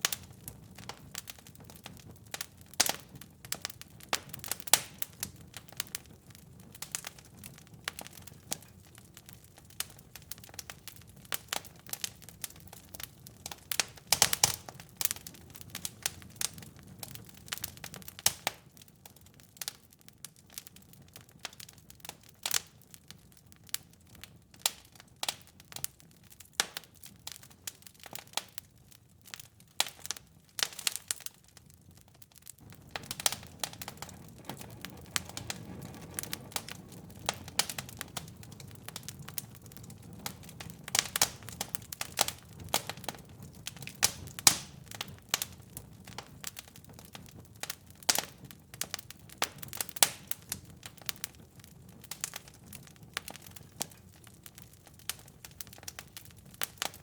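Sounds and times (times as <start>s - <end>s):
low rush of flames: 0.0s - 19.5s, 30.1s - 57.0s
wood fire crackling: 0.0s - 57.0s.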